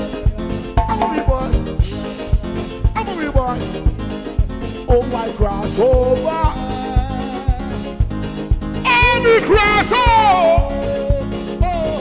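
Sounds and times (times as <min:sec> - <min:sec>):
live band playing: 0:00.0 - 0:12.0
kick drum beat: 0:00.3 - 0:12.0.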